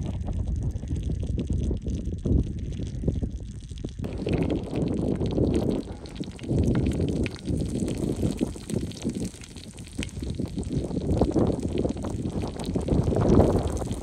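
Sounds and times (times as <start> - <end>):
faint crackles: 0.0 - 14.0
wind buffeting microphone: 0.0 - 14.0.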